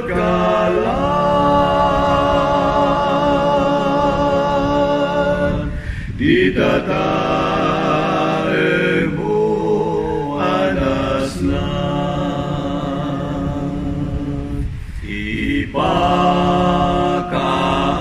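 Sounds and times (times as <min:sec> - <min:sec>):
a cappella harmony singing: 0:00.0 - 0:18.0.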